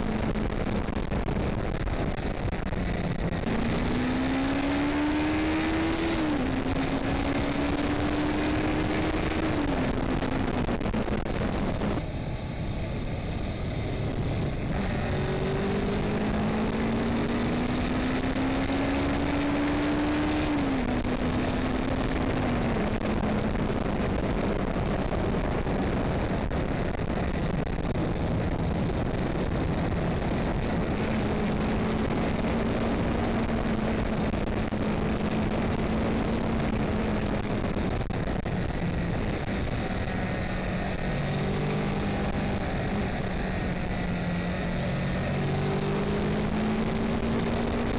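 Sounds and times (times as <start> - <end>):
tyre and road noise: 0.0 - 47.9.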